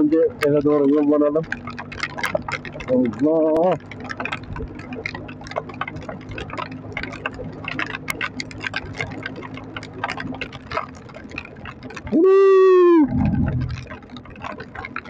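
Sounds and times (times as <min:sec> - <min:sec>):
motorcycle engine humming: 0:00.0 - 0:15.0
rain tapping on microphone: 0:00.0 - 0:15.0.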